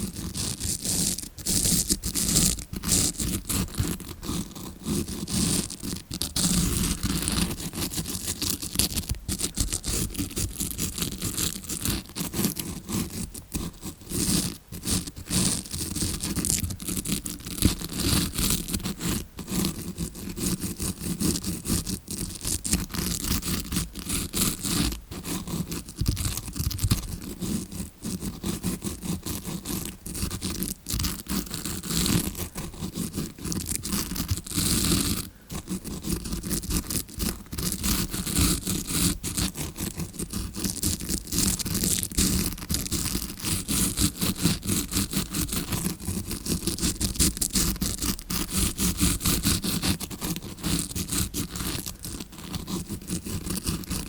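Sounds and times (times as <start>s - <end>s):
scrubbing brush bristles scratching: 0.0s - 54.0s.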